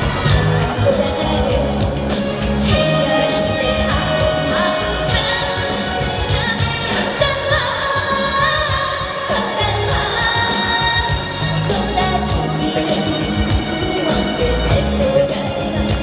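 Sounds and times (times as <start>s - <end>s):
amplified backing track: 0.0s - 16.0s
woman singing: 0.0s - 16.0s.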